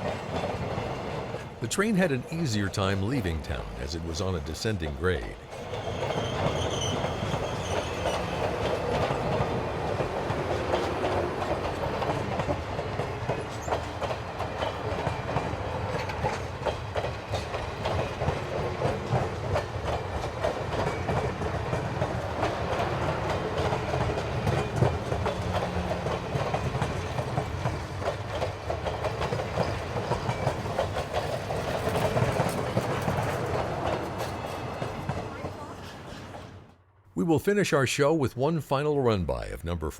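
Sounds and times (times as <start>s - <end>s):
train wheels rumbling and clicking: 0.0s - 36.8s.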